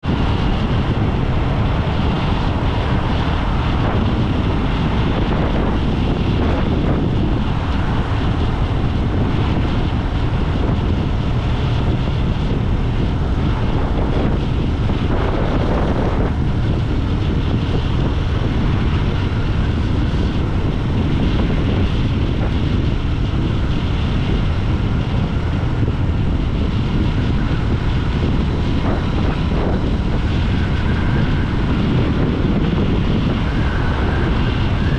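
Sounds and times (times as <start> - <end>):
road noise: 0.0 - 34.9
wind rushing over microphone: 0.0 - 34.9.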